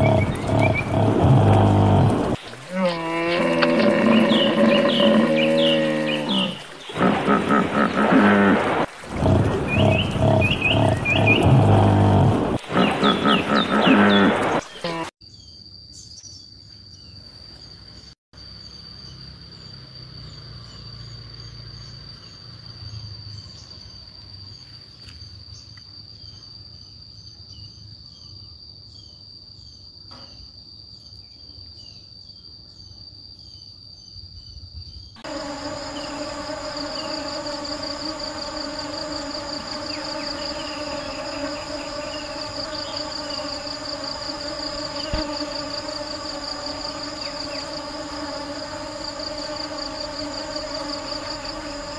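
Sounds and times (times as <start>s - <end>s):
insect chirps: 0.0s - 51.9s
insect chorus with low buzz: 0.0s - 51.9s
insects trilling: 0.0s - 51.9s.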